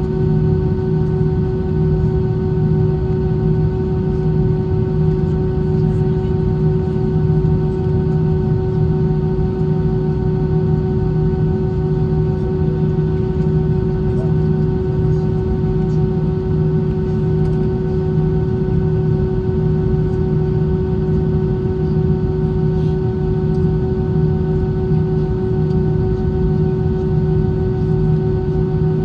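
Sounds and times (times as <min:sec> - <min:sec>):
airplane cabin noise: 0:00.0 - 0:29.0.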